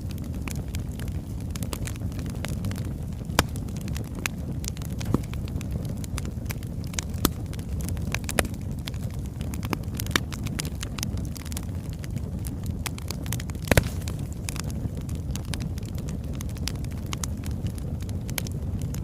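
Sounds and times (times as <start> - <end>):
burning logs crackling: 0.0 - 19.0
low rumble of fire: 0.0 - 19.0
sharp pops of fire: 0.0 - 19.0.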